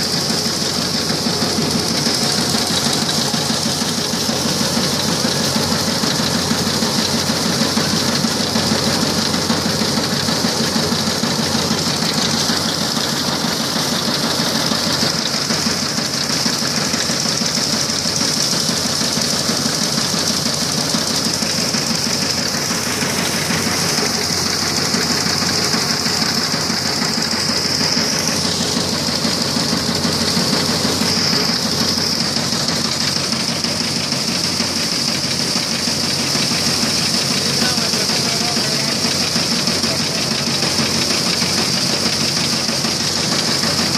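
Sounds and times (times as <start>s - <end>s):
diesel engine knocking: 0.0s - 43.9s
threshing drum whirr and clatter: 0.0s - 43.9s.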